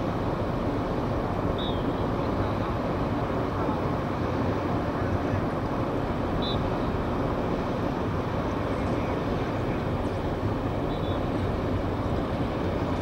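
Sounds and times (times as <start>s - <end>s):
ship diesel engines rumbling: 0.0s - 13.0s.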